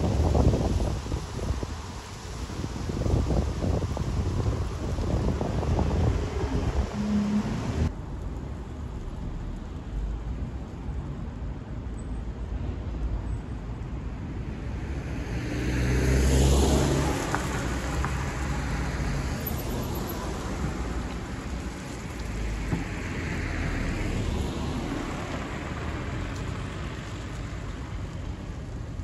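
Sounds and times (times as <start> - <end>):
vehicle passing with engine rumble: 0.0 - 10.3, 14.5 - 29.0
traffic and tyre noise: 0.0 - 29.0.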